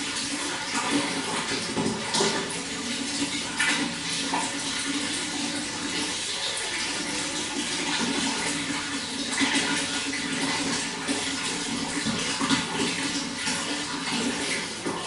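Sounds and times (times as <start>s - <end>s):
running water pouring and splashing: 0.0s - 15.0s.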